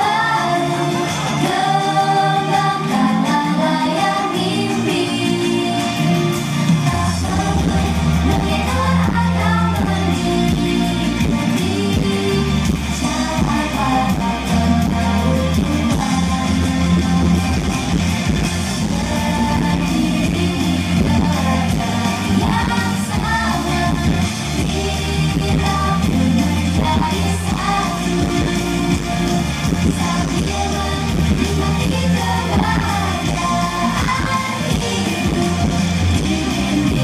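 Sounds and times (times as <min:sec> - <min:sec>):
amplified pop-rock music: 0:00.0 - 0:37.0
group of women singing: 0:00.0 - 0:37.0.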